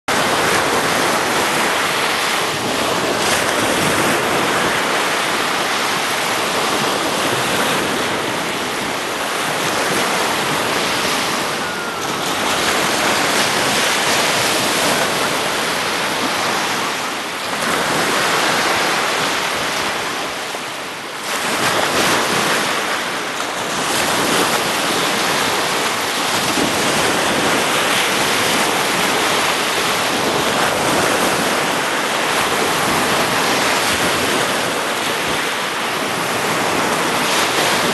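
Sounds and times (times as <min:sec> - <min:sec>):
waves washing on sandy beach: 0:00.1 - 0:37.9.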